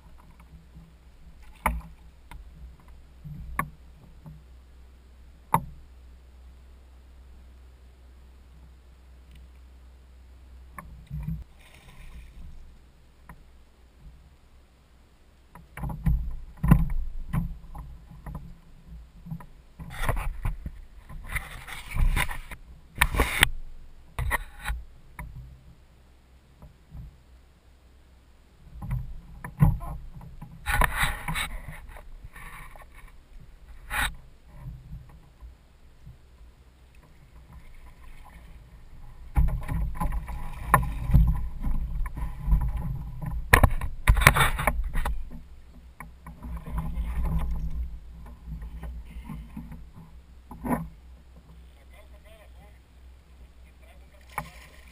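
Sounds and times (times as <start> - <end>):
water splashing against kayak hull: 0.0 - 4.5, 10.7 - 14.4, 15.4 - 25.8, 28.6 - 54.9.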